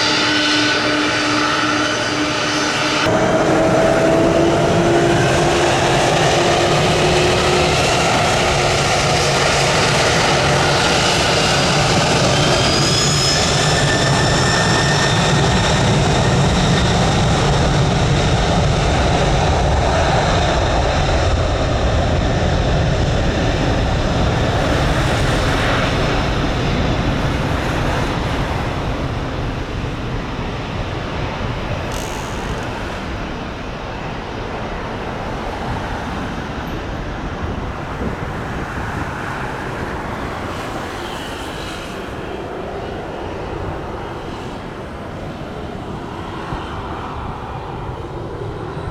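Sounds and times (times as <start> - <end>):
jet airliner flying past: 0.0 - 48.9.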